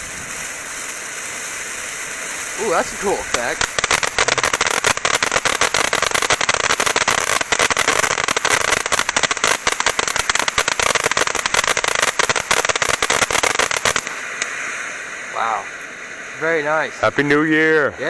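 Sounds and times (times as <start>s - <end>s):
firework fountain crackling: 0.0s - 18.0s
firework hiss: 0.0s - 18.0s.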